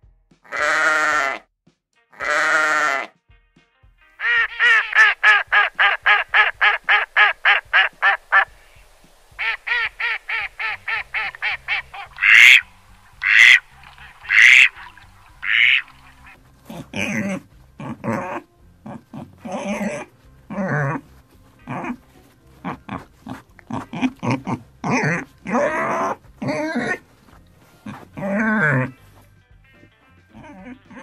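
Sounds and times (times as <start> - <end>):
rough irregular duck calls: 0.4 - 1.4, 2.1 - 3.2, 4.2 - 8.8, 9.4 - 27.1, 27.8 - 31.0
duck quacking: 0.5 - 1.4, 2.2 - 3.1, 4.2 - 8.8, 9.4 - 22.0, 22.6 - 27.0, 27.8 - 29.0, 29.8 - 31.0.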